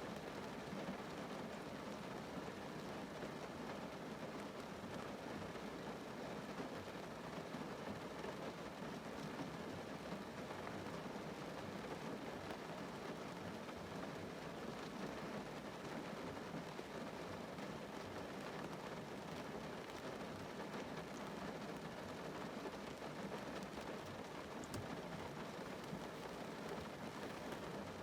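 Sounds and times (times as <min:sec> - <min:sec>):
rain drumming on car roof: 0:00.1 - 0:28.0.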